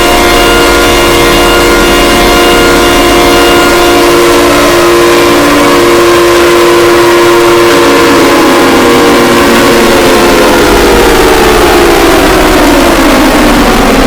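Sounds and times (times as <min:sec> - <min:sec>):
emergency alert alarm tones: 0:00.0 - 0:14.0.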